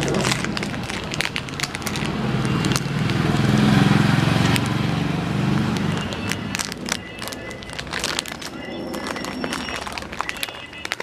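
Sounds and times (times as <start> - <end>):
vehicle engine passing: 0.0 - 9.5.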